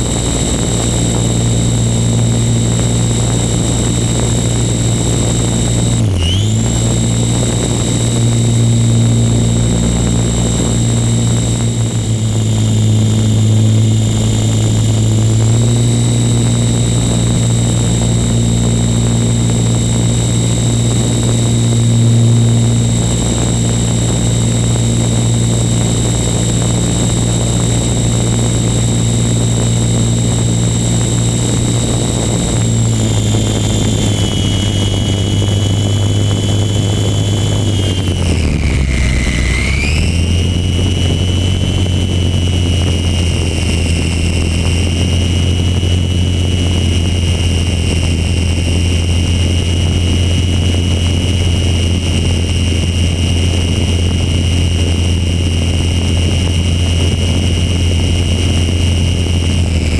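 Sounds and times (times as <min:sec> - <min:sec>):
small aircraft engine droning: 0:00.0 - 0:59.9.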